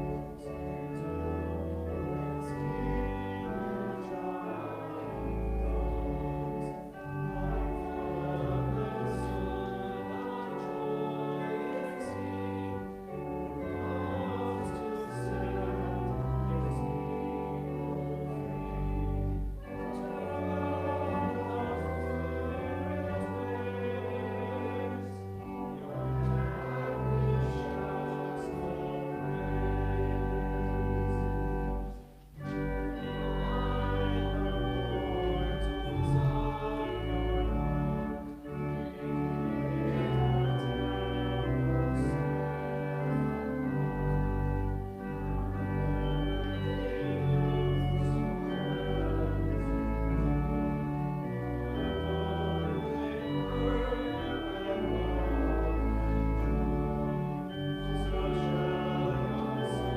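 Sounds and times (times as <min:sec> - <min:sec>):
church organ playing hymn: 0:00.0 - 0:59.9.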